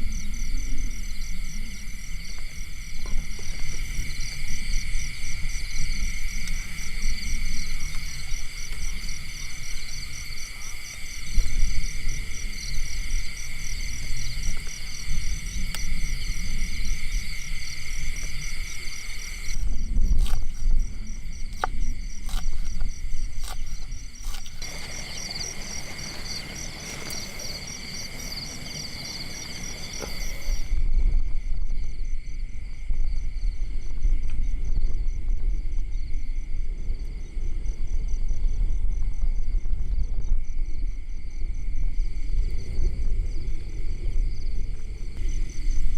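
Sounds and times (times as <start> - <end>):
insects high pulsing drone: 0.0 - 45.9.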